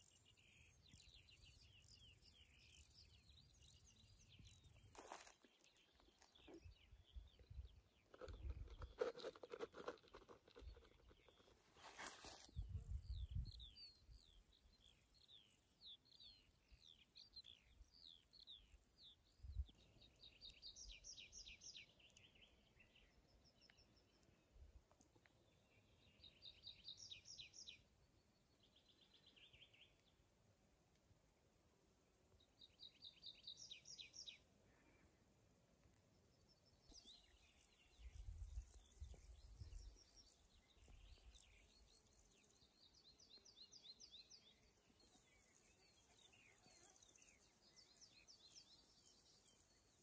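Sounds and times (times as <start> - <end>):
songbirds singing: 0.0 - 31.5, 32.2 - 50.0.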